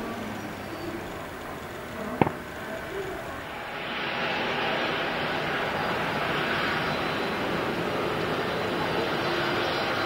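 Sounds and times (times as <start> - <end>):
distant jet engines running: 0.0 - 10.0.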